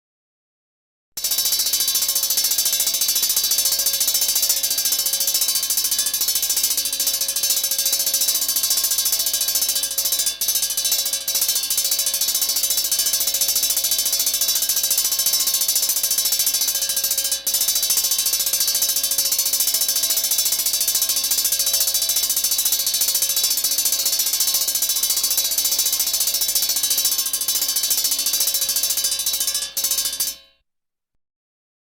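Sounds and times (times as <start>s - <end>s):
fire alarm bell ringing: 1.2s - 30.6s.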